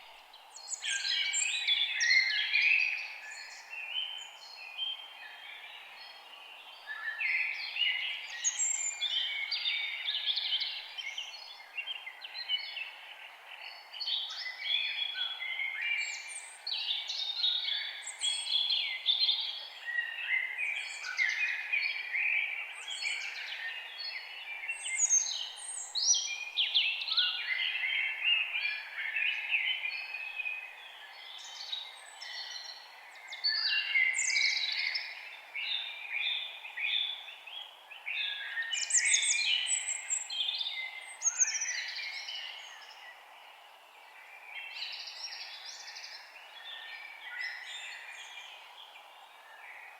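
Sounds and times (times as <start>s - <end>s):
birds singing in chorus: 0.0s - 49.9s
faint background hiss: 0.0s - 49.9s.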